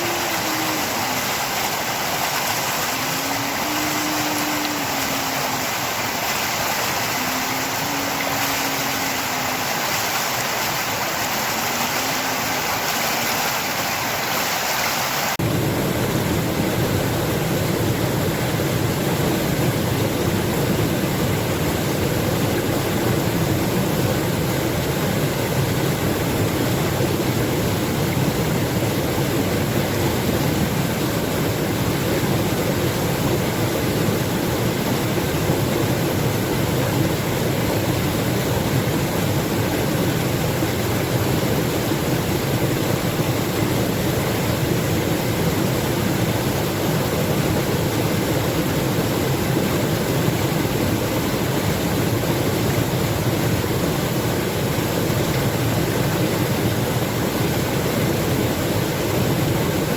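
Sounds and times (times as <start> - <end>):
rush of flowing water: 0.0 - 59.9.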